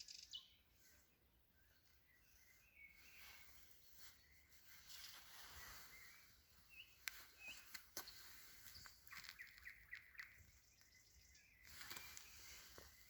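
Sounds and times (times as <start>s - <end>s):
songbird chirps: 0.0s - 13.0s.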